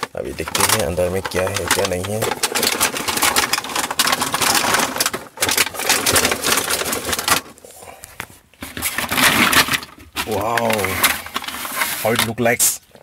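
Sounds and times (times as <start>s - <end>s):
packaging crinkling: 0.0s - 12.6s.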